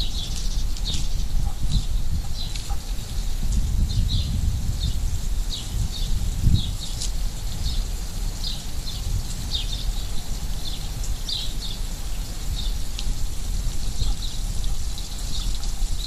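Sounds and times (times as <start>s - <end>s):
small bird chirping: 0.0s - 16.0s
steady low rumble: 0.0s - 16.0s.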